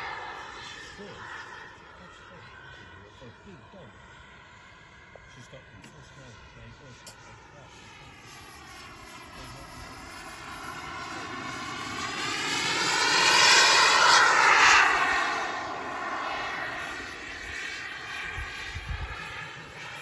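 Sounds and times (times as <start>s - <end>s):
model jet engine passing: 0.0s - 20.0s.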